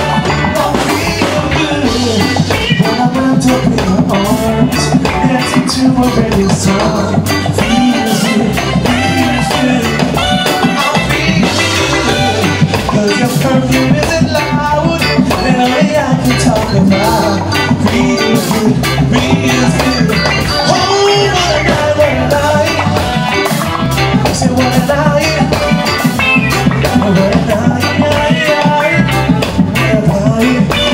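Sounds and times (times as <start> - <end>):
man singing: 0.0 - 30.9
reggae band playing: 0.0 - 30.9.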